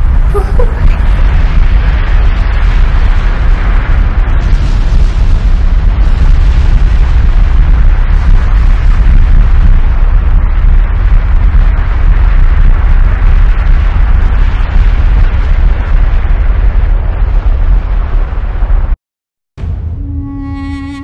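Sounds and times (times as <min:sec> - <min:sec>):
deep rumble: 0:00.0 - 0:19.0, 0:19.6 - 0:21.0.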